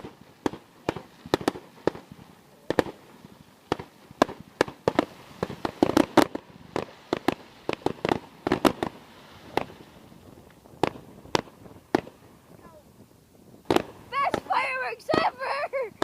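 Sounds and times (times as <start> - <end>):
fireworks bangs and cracks: 0.0 - 16.0.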